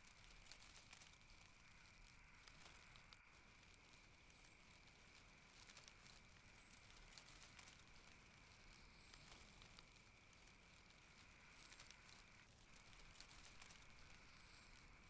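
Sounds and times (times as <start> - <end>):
faint crackling hiss: 0.0 - 15.0.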